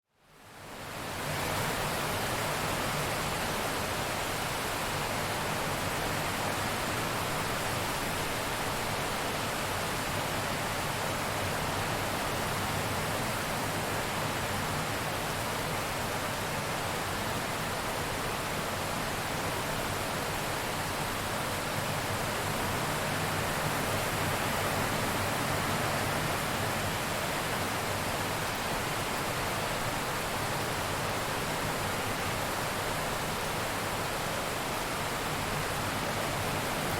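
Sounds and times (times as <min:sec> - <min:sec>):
heavy rain: 0:00.4 - 0:36.9.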